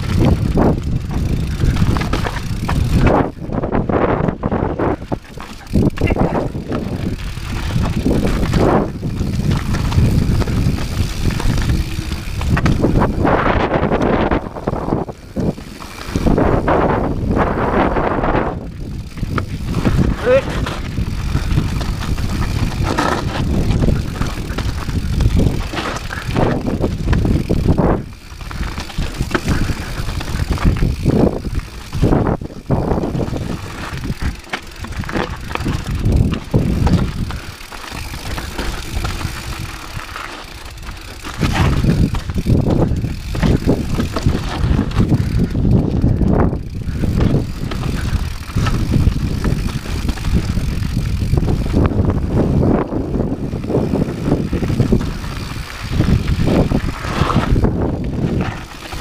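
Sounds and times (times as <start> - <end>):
bike knocking and rattling: 0.0 - 59.0
bike tyres crunching on stones: 0.0 - 59.0
continuous low rumble: 0.0 - 59.0.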